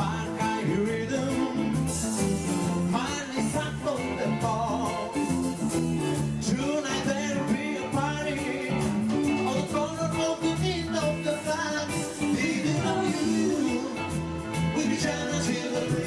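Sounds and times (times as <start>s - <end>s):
pop band music: 0.0s - 16.0s.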